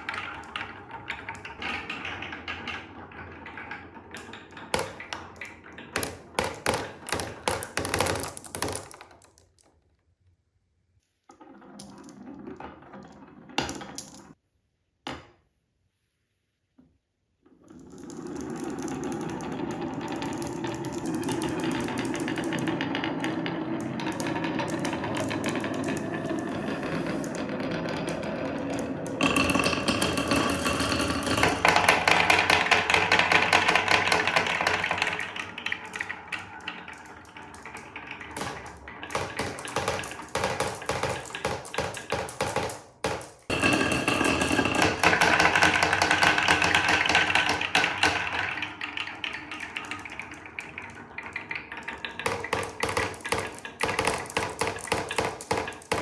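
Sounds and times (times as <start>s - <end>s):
marbles rolling down wooden slopes: 0.0s - 10.3s, 11.3s - 14.4s, 17.6s - 56.0s.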